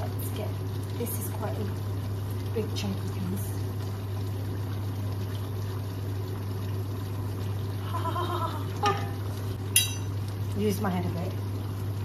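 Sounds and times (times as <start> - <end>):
curry bubbling in a pan: 0.0 - 12.0.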